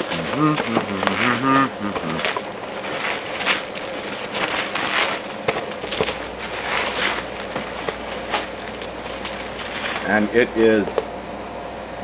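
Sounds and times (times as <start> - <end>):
bubble wrap crinkling: 0.0 - 10.6.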